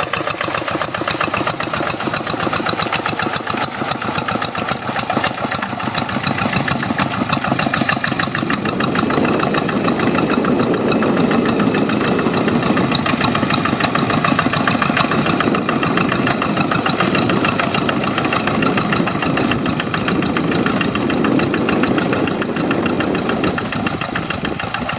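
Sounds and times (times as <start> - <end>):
diesel engine chugging: 0.0 - 24.9.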